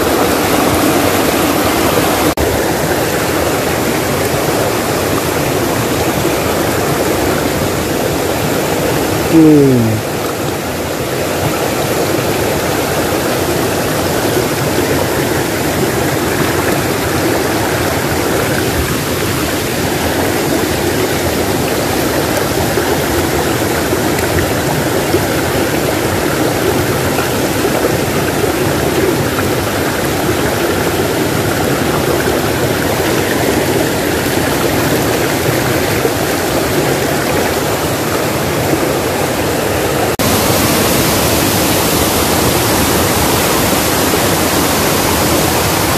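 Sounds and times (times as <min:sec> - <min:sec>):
stream running over stones: 0:00.0 - 0:09.3, 0:09.9 - 0:45.9.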